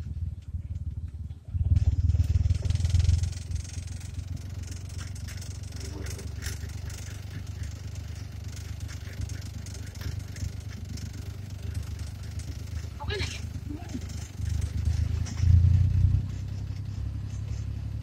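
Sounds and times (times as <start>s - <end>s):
body rattles and clicks: 0.0s - 18.0s
van engine drone: 0.0s - 18.0s.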